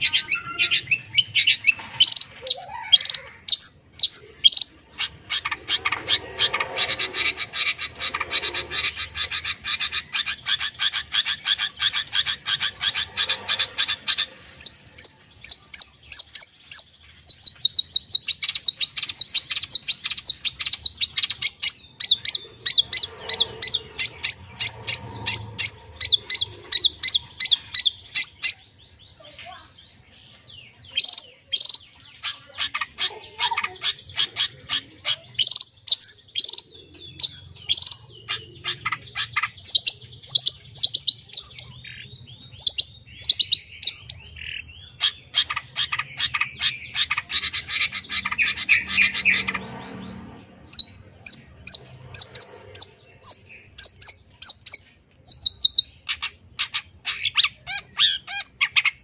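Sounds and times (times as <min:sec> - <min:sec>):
buzzy bird chatter: 0:00.0 - 0:59.0.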